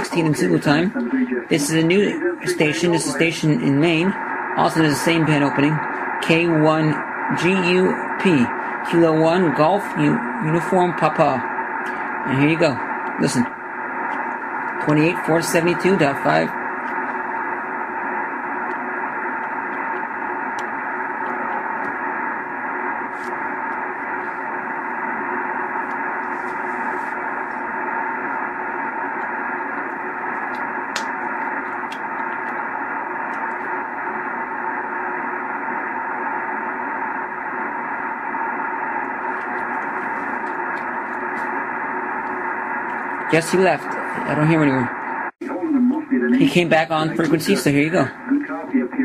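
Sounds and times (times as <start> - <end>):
radio static hiss: 0.0 - 49.0.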